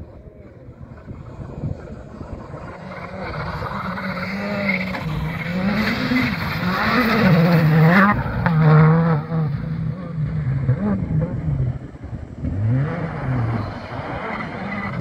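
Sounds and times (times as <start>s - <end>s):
rally car engine revving on gravel: 0.0s - 15.0s.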